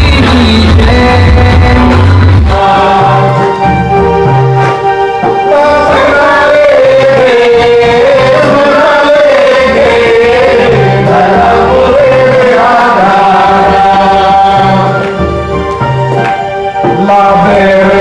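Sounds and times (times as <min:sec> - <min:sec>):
man singing a hymn: 0:00.0 - 0:03.7, 0:05.2 - 0:15.1, 0:16.8 - 0:18.0
instrumental accompaniment: 0:00.0 - 0:18.0.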